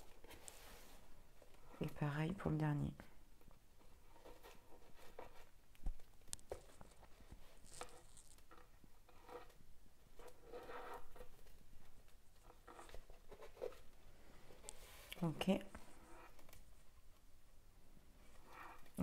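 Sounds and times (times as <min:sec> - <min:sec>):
cord rustling and scraping: 0:00.0 - 0:02.3, 0:03.8 - 0:17.2, 0:18.2 - 0:19.0.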